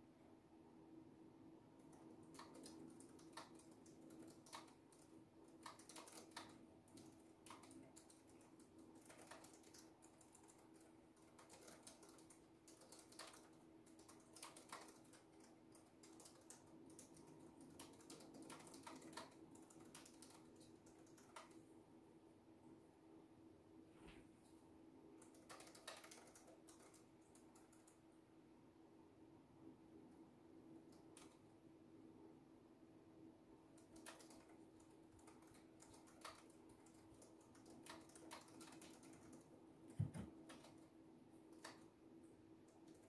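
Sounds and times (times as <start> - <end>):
faint steady hum: 0.0 - 43.0
soft keyboard typing: 1.7 - 21.8, 24.4 - 28.2, 30.1 - 31.6, 33.6 - 43.0.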